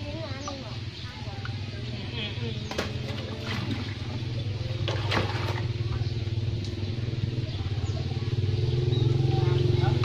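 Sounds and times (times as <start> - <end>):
small engine running: 1.2 - 10.0.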